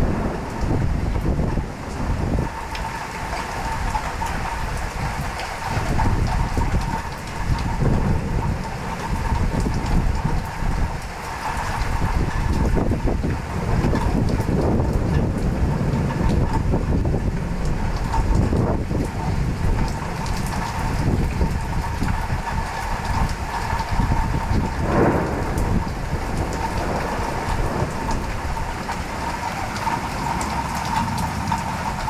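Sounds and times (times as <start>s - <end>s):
heavy rain pouring: 0.0s - 32.0s
thunder rumbling: 0.0s - 32.0s.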